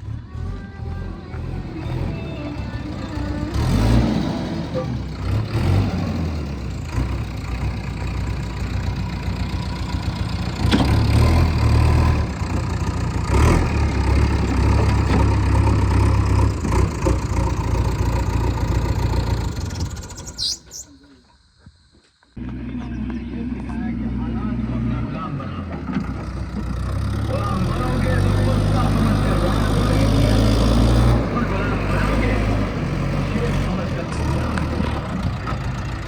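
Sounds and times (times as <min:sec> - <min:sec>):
heavy machinery diesel engine: 0:00.0 - 0:20.9, 0:22.4 - 0:36.0.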